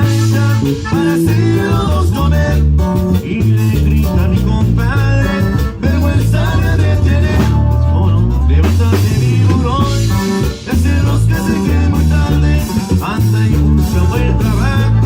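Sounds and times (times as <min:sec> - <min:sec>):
drums: 0:00.0 - 0:15.0
guitar melody: 0:00.0 - 0:15.0
pulsing bass line: 0:00.0 - 0:15.0.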